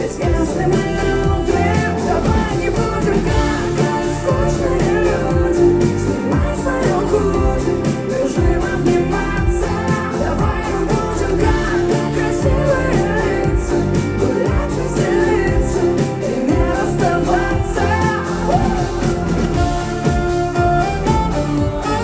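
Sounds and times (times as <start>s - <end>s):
band playing pop song: 0.0s - 22.0s
woman singing: 0.0s - 22.0s.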